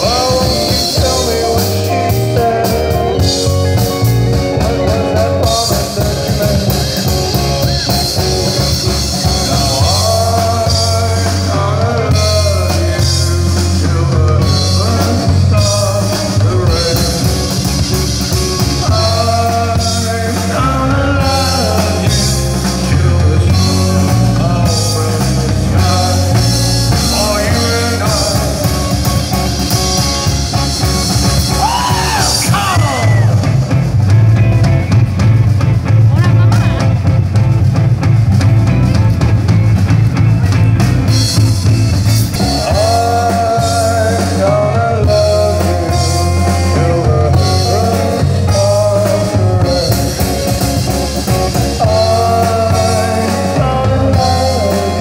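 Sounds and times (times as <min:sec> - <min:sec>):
man singing lead vocal: 0:00.0 - 0:34.5, 0:41.1 - 0:55.0
bass line: 0:00.0 - 0:55.0
drum kit: 0:00.0 - 0:55.0
electric guitar: 0:00.0 - 0:55.0
keyboard: 0:00.0 - 0:55.0.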